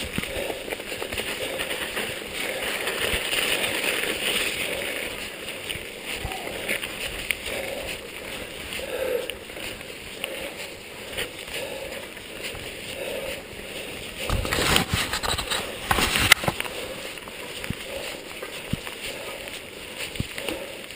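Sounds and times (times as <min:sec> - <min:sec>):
bike rattling: 0:00.0 - 0:20.9
bike tyres on gravel: 0:00.0 - 0:20.9.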